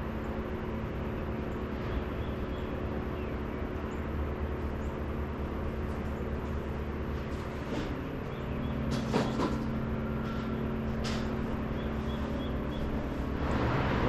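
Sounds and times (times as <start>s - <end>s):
low rumble and hum: 0.0s - 14.0s.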